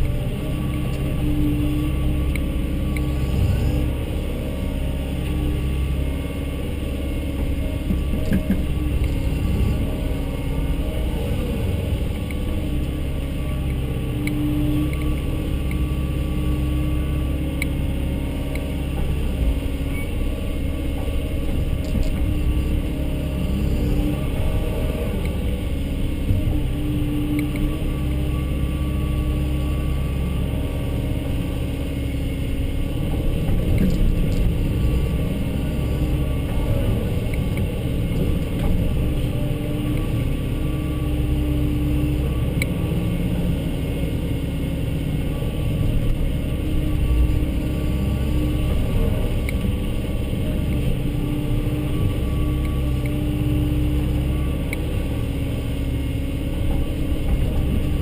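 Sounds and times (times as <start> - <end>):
excavator diesel engine under load: 0.0 - 58.0.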